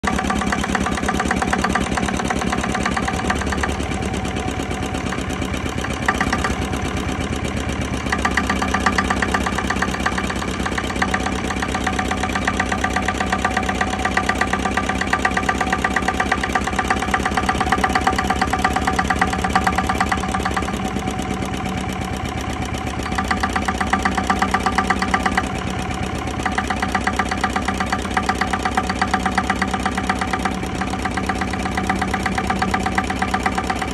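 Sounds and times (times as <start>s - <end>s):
diesel engine knocking: 0.0s - 33.9s.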